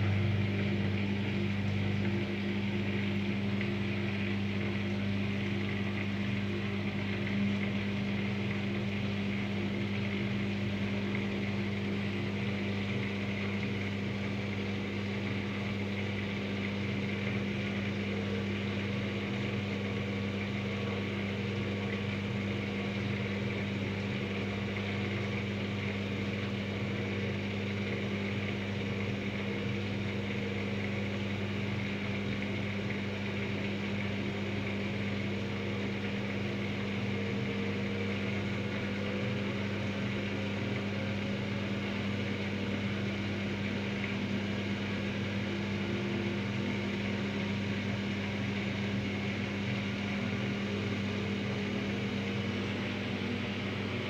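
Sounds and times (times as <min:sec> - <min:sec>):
washing machine drum hum: 0:00.0 - 0:54.0.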